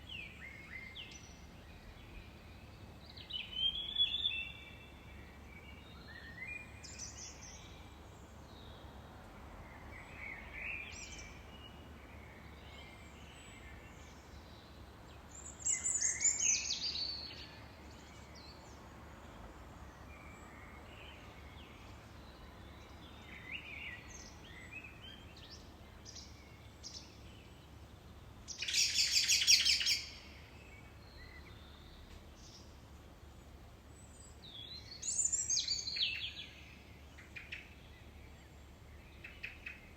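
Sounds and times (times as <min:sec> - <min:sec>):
songbirds chirping and whistling: 0:00.0 - 0:09.0, 0:09.6 - 0:19.0, 0:19.8 - 0:32.8, 0:33.9 - 0:39.9.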